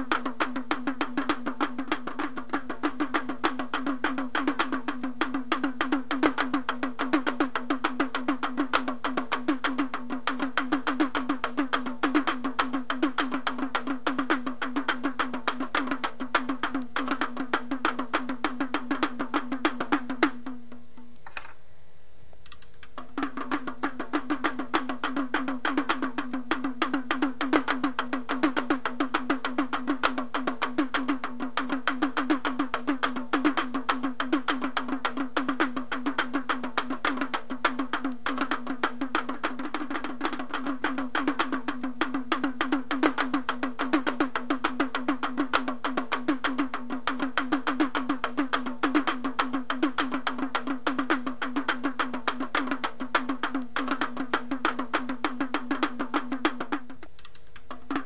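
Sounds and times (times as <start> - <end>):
fast percussive background music: 0.0 - 20.6, 23.0 - 57.1, 57.7 - 58.0.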